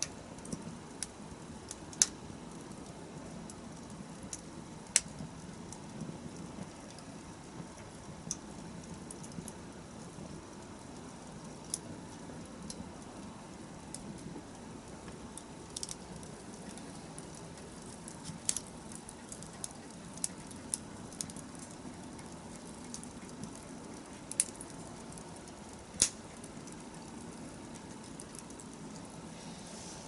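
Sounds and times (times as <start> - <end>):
wood fire crackling and popping: 0.0 - 29.6
low rush of fire: 0.0 - 30.0.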